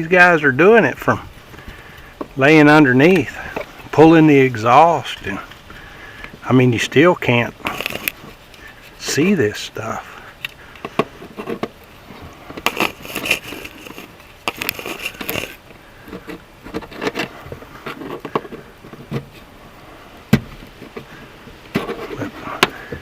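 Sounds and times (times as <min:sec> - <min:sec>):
rustling: 0:00.0 - 0:23.0
scraping: 0:00.0 - 0:23.0.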